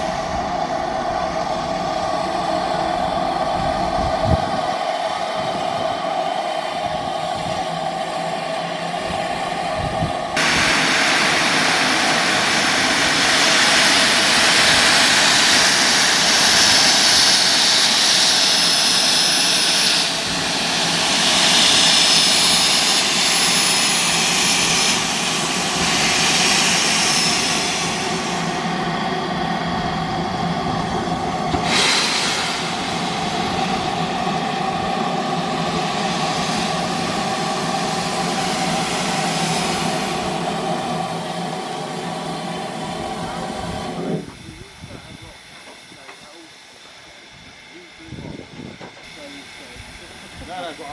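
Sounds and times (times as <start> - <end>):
steam locomotive hissing steam: 0.0 - 50.9.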